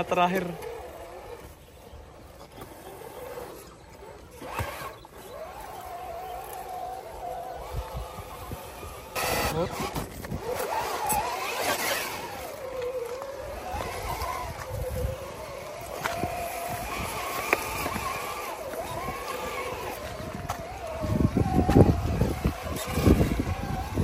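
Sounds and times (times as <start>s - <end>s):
electric motor and gears whining: 0.0s - 24.0s.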